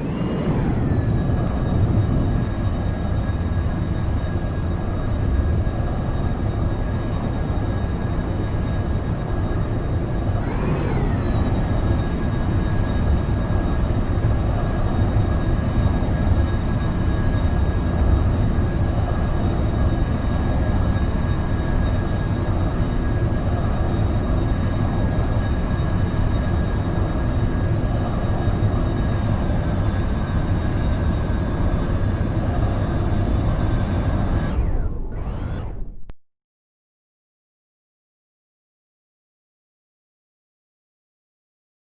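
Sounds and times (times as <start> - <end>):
jet engines rumbling and whining: 0.0 - 36.1.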